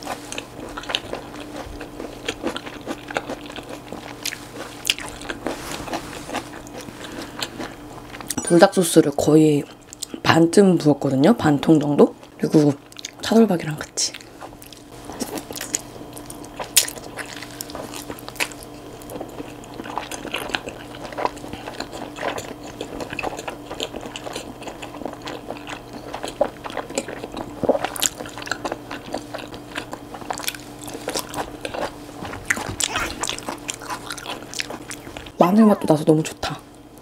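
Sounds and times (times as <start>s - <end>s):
chewing noodles: 0.0s - 8.4s, 12.2s - 13.2s, 13.9s - 35.4s
faint hum: 0.0s - 37.0s.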